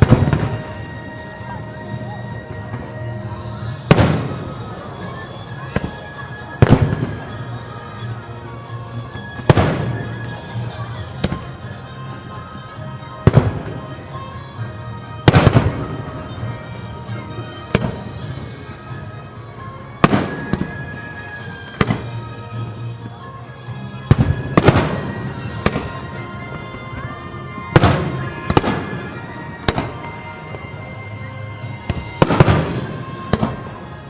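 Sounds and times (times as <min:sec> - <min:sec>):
music playing: 0:00.0 - 0:34.0.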